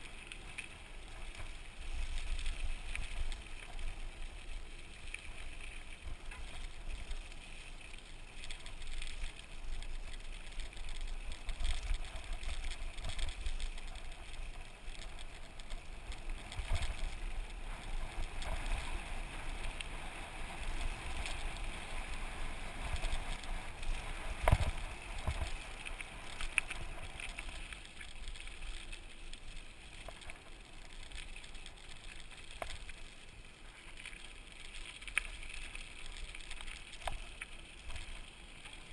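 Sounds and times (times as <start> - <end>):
mountain bike rolling on dirt: 0.0 - 38.9.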